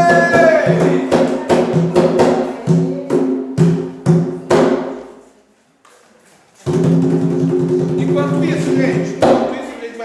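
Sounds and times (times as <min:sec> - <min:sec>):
hand drums beating: 0:00.0 - 0:05.1, 0:06.7 - 0:09.6.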